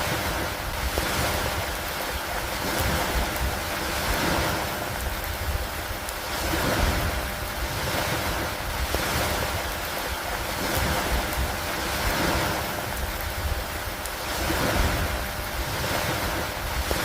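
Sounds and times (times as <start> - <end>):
rain and wind over water: 0.0 - 17.0.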